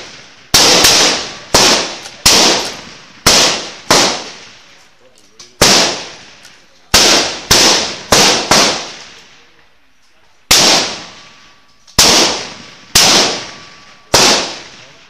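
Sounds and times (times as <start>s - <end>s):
rifle shots: 0.0s - 4.7s, 5.6s - 9.5s, 10.5s - 15.0s.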